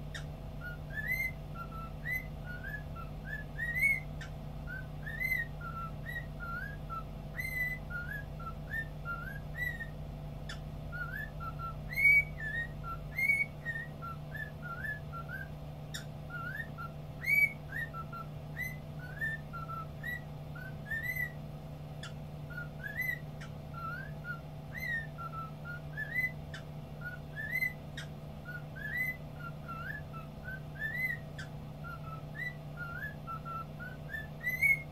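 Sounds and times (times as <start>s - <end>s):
cockatiel whistling: 0.1s - 21.4s, 22.0s - 34.9s.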